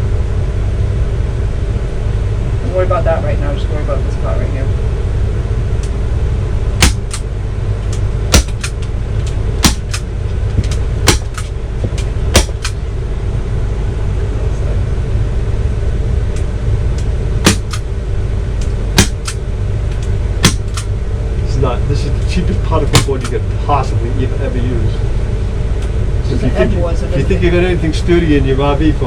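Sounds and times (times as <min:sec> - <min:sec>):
engine idling hum: 0:00.0 - 0:29.0.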